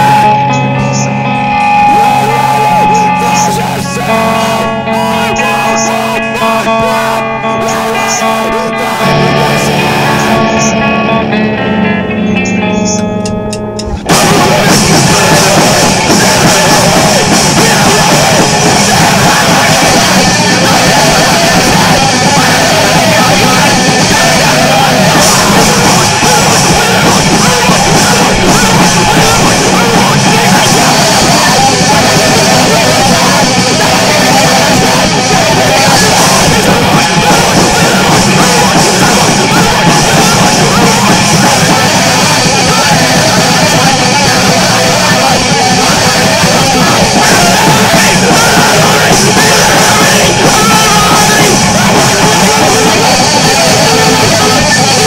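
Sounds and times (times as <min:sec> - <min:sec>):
drum kit: 0:00.0 - 0:11.1, 0:12.4 - 0:55.0
shouted vocals: 0:00.0 - 0:13.1, 0:14.0 - 0:55.0
heavy rock song: 0:00.0 - 0:55.0.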